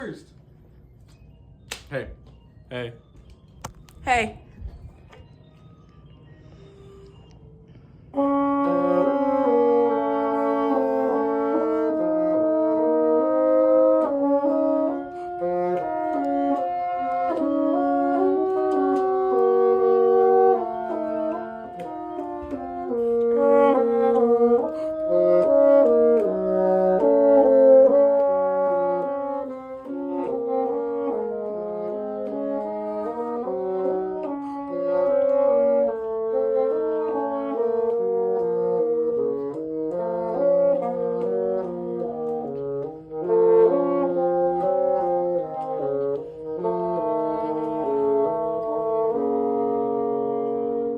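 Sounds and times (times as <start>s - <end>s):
bassoon section playing: 7.8s - 50.9s.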